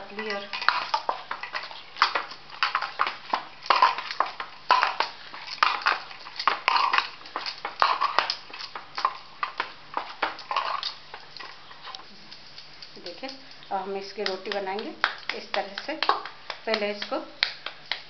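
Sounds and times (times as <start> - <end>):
dough kneaded in metal bowl: 0.0 - 18.0.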